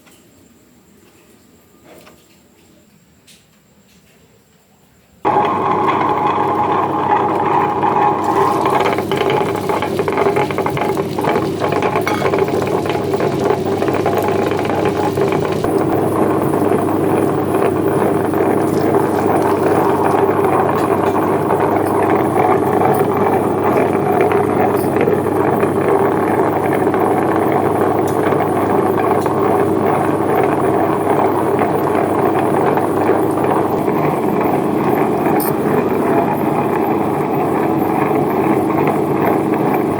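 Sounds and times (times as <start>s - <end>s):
small motor running: 5.3s - 39.9s.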